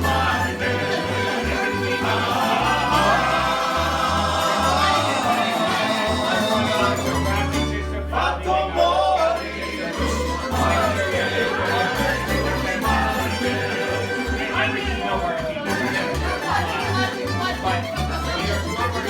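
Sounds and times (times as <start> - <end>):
plucked strings folk music: 0.0 - 19.0
voices singing together: 0.0 - 19.0.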